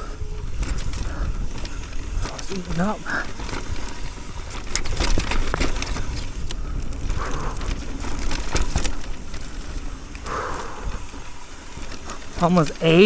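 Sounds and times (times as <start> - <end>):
wind on microphone: 0.0 - 12.4
bike chain and frame rattling: 0.0 - 13.0
tyre skids: 0.0 - 13.0
tyres crunching over dirt and rock: 0.4 - 13.0.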